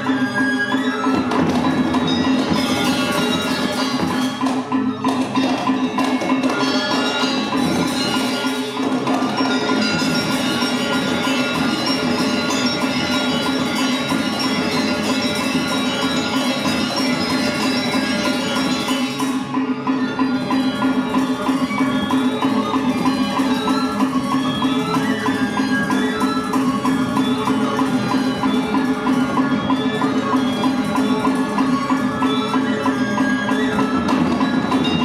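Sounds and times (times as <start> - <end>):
drums: 0.0 - 35.0
gongs: 0.0 - 35.0
metallophones ringing: 0.0 - 35.0.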